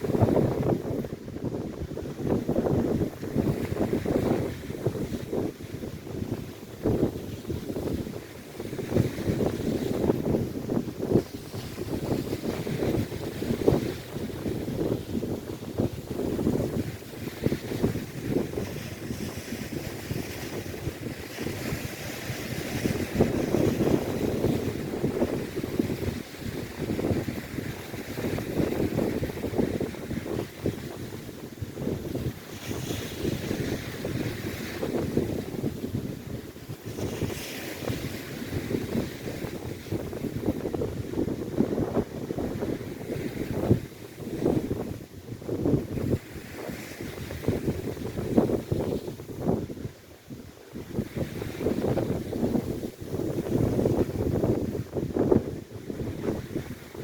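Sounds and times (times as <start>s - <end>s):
waves breaking on shore: 0.0s - 57.0s
wind buffeting microphone: 0.0s - 57.0s.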